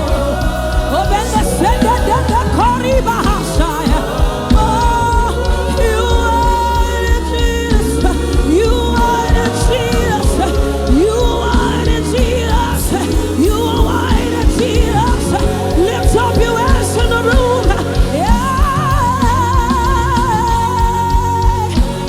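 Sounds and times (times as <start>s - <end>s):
gospel worship band playing: 0.0s - 22.0s.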